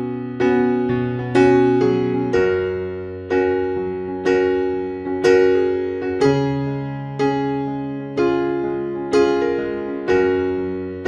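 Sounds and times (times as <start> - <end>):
slow gentle piano: 0.0 - 11.0.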